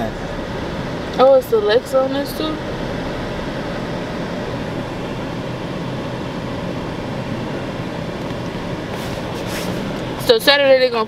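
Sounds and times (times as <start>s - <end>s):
car cabin rumble and hiss: 0.0s - 11.0s.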